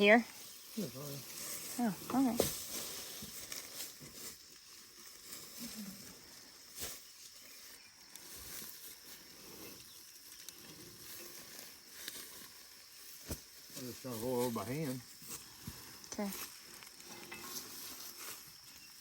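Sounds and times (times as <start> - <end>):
rustles: 0.0 - 19.0
soft outdoor hiss: 0.0 - 19.0.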